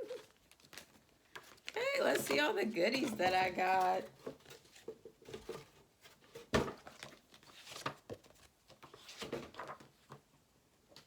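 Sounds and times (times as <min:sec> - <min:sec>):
paper rustling and tapping: 0:00.2 - 0:10.3.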